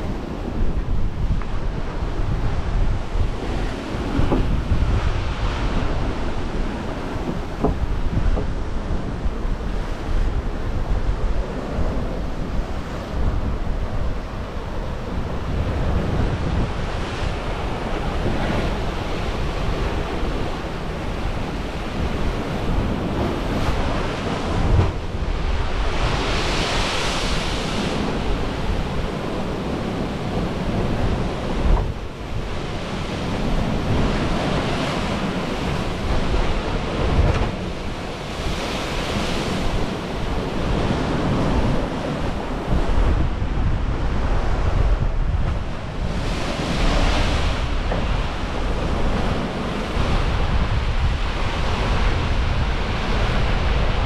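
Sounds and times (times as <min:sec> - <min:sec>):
surf breaking against cliffs: 0:00.0 - 0:54.0
wind buffeting microphone: 0:00.0 - 0:54.0.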